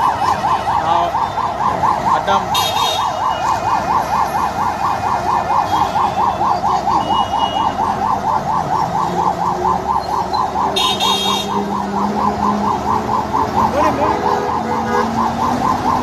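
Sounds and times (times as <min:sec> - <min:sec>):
siren wailing in fast warble: 0:00.0 - 0:16.0.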